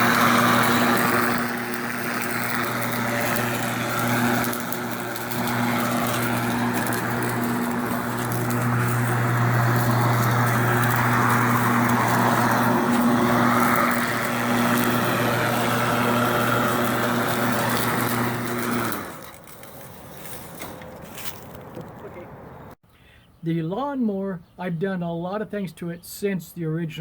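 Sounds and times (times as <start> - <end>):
electric lawnmower humming: 0.0 - 21.7.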